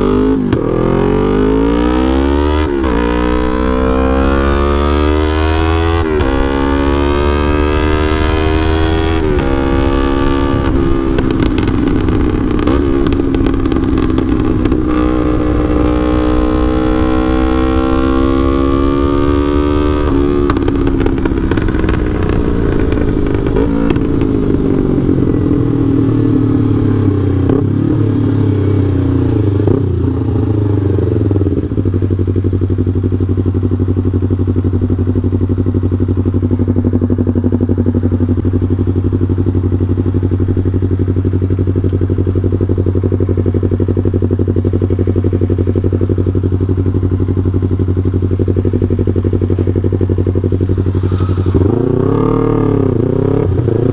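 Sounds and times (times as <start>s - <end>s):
motorcycle engine idling: 2.7s - 53.9s.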